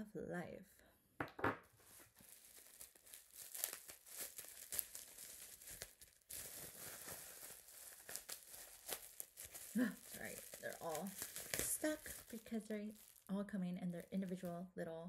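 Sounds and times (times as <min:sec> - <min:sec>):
bubble wrap crinkling: 0:01.8 - 0:14.6.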